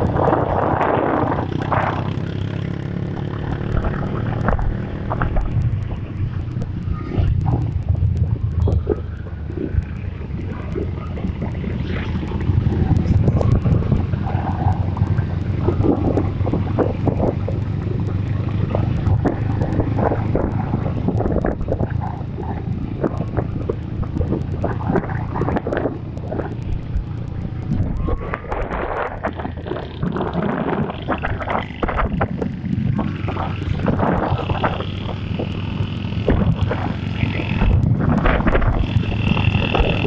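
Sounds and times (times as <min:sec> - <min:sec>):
crackles and knocks: 0:00.0 - 0:40.0
motorcycle engine running: 0:00.0 - 0:40.0
wind buffeting microphone: 0:00.0 - 0:40.0.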